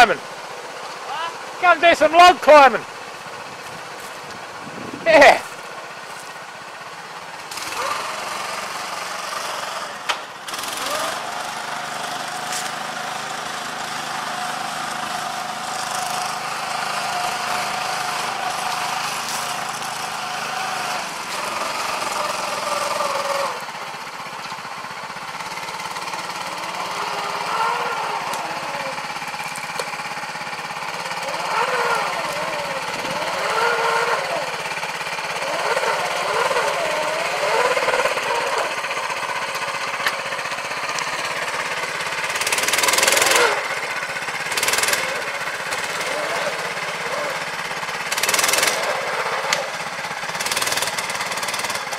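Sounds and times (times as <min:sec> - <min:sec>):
small petrol engine running: 0:00.0 - 0:51.9.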